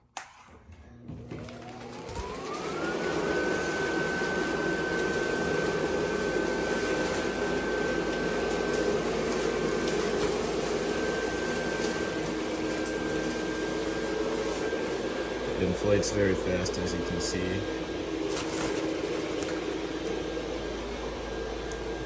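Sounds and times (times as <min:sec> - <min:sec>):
blower fan whining: 0:00.6 - 0:22.0.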